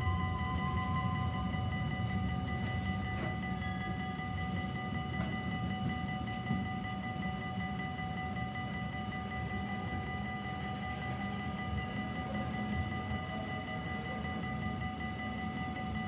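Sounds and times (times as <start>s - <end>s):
high ringing tone: 0.0s - 16.0s
train wheels rumbling on rails: 0.0s - 16.0s.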